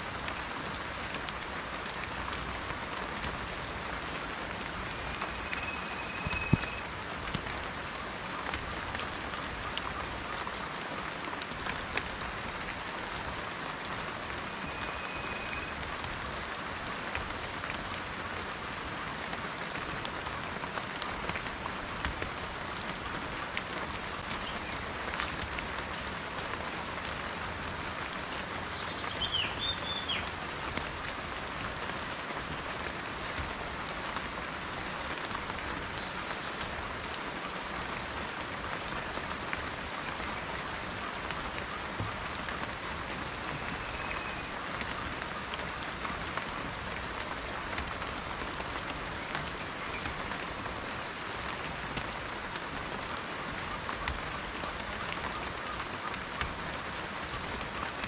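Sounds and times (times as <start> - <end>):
rain on foliage: 0.0 - 58.0.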